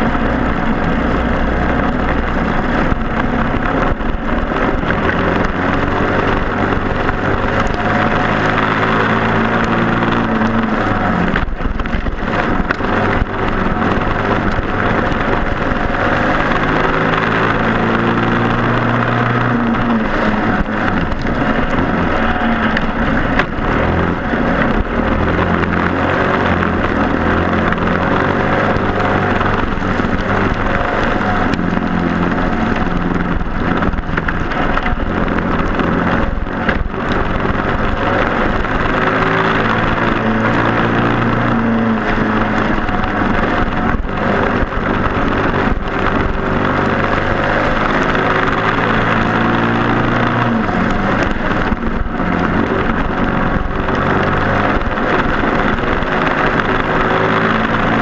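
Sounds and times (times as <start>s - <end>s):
kart engine revving: 0.0s - 58.0s
wind noise: 0.0s - 58.0s.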